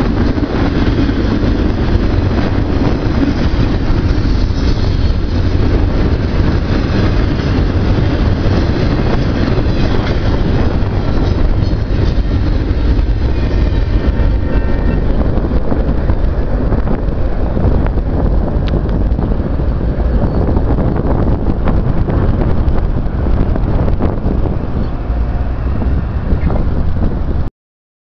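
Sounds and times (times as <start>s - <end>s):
freight train rolling past: 0.0s - 27.5s
wind rumbling on microphone: 0.0s - 27.5s.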